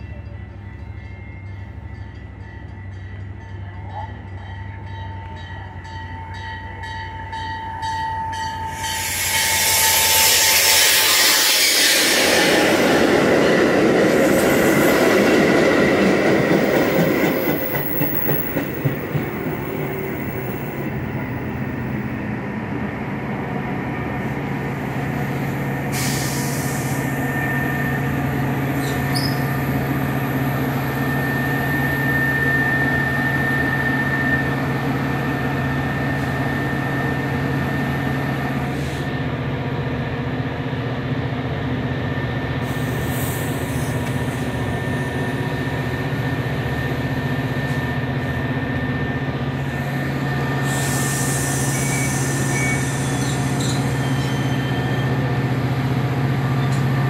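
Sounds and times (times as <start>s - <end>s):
diesel locomotive engine hum: 0.0s - 57.0s
train rushing past: 4.3s - 57.0s.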